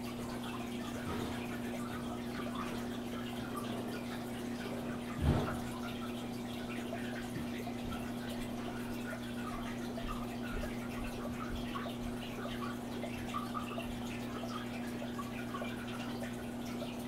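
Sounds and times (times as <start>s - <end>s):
aquarium water trickling: 0.0s - 17.0s
bubbles: 0.0s - 17.0s.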